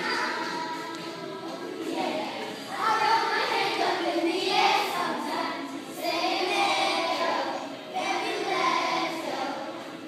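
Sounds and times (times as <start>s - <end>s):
pop song with vocals: 0.0s - 10.0s.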